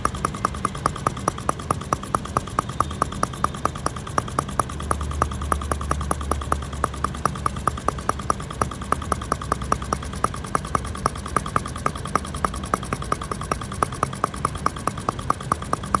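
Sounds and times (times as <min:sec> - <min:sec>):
model engine running: 0:00.0 - 0:16.0
sharp regular ticking: 0:00.0 - 0:16.0.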